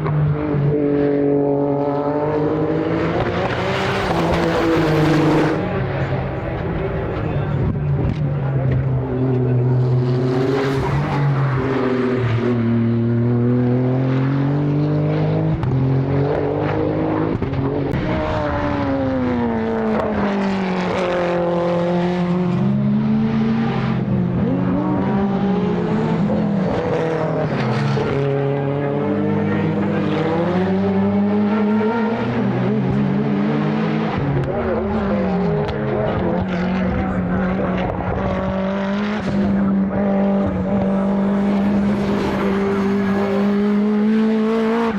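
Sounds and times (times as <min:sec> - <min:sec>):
race car engine accelerating: 0:00.0 - 0:44.9.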